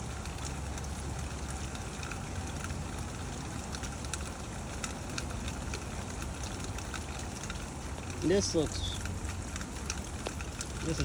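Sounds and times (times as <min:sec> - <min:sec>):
water dripping: 0:00.0 - 0:11.0.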